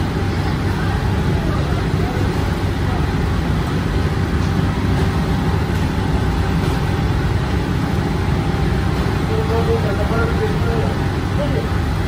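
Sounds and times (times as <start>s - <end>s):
oven burner rumble and hiss: 0.0s - 12.0s.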